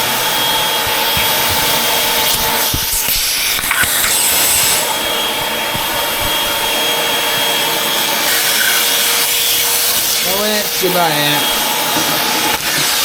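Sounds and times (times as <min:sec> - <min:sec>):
vacuum cleaner motor whine: 0:00.0 - 0:13.0
vacuum scraping over floor: 0:00.0 - 0:13.0.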